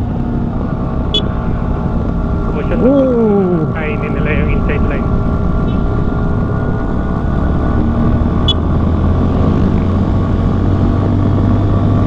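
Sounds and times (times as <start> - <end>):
minibike engine cruising: 0.0 - 12.0
wind noise: 0.0 - 12.0.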